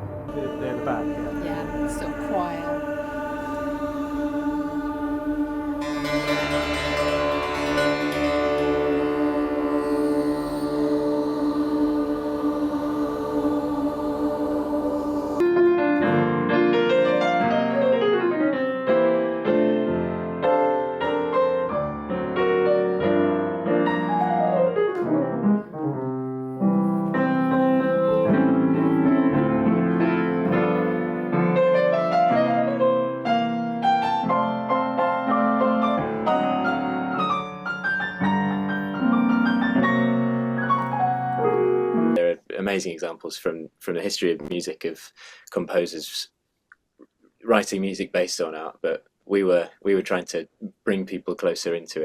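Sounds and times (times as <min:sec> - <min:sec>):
piano music: 0:00.0 - 0:42.2.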